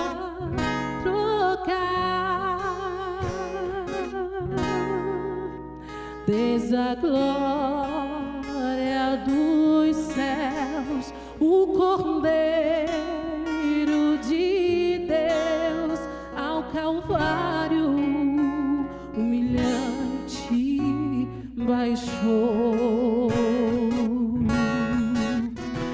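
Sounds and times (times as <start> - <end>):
strummed acoustic guitar: 0.0 - 25.9
woman singing: 0.0 - 25.9.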